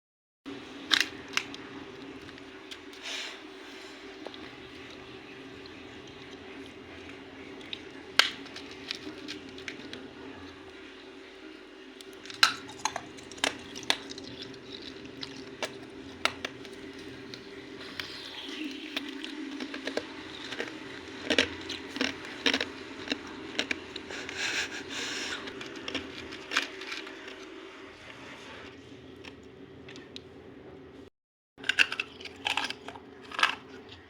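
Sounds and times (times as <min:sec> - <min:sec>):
steady low hum: 0:00.5 - 0:31.1.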